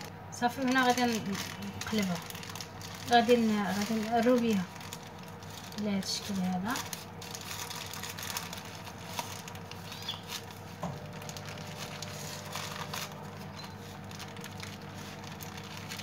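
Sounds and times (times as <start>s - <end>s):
faint steady hum: 0.0s - 16.0s
paper rustling and crinkling: 0.0s - 16.0s.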